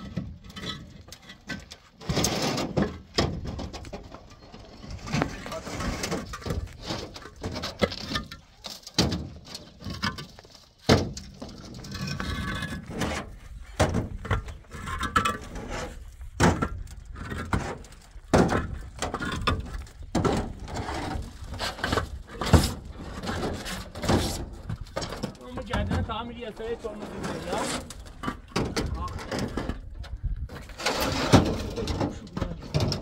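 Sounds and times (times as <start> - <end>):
concrete blocks knocking and scraping: 0.0 - 33.0.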